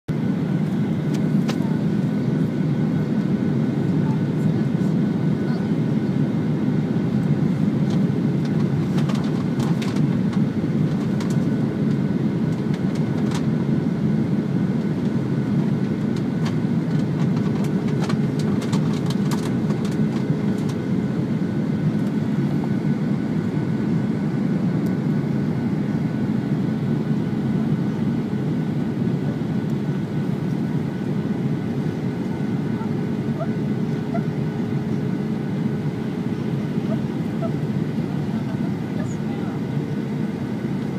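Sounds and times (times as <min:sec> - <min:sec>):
aircraft cabin engine roar: 0:00.1 - 0:40.9.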